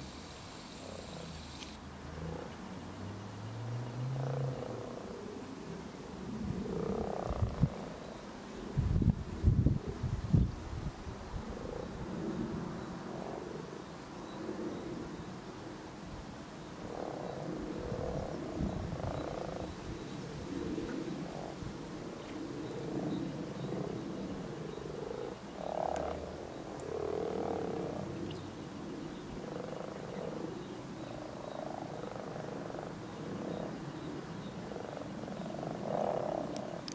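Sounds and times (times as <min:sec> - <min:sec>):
frogs croaking: 0:00.0 - 0:05.6, 0:06.3 - 0:08.7, 0:11.4 - 0:15.6, 0:16.6 - 0:36.9.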